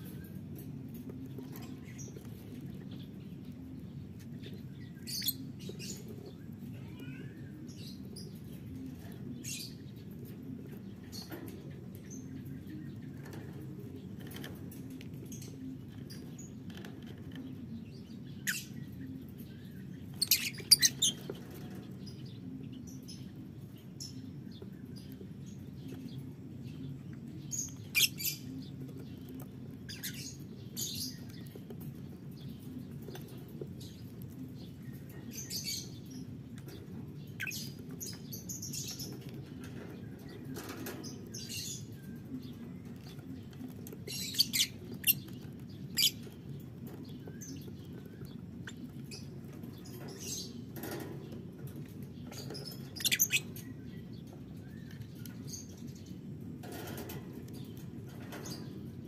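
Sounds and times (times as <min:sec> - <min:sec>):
birds chirping and squeaking: 0:00.0 - 0:59.0
low background hum: 0:00.0 - 0:59.0.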